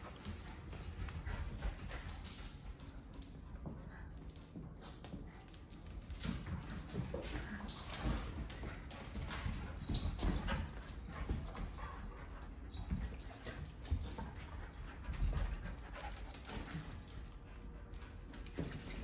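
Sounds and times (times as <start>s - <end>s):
dogs scuffling and thumping: 0.0s - 19.0s.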